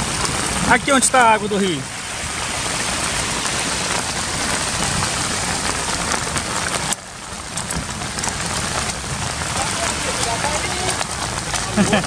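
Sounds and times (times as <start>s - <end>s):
drain outflow gushing: 0.0s - 12.0s
river water rushing: 0.0s - 12.0s.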